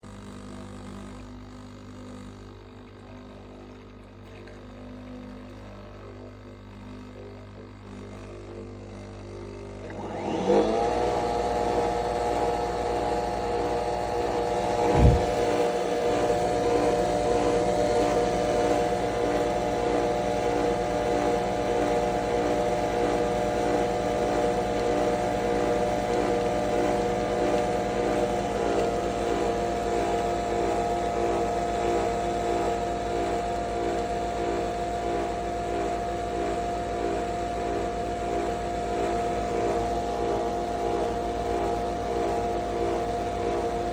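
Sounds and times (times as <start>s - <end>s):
coffee machine motor whirring: 2.8s - 43.9s.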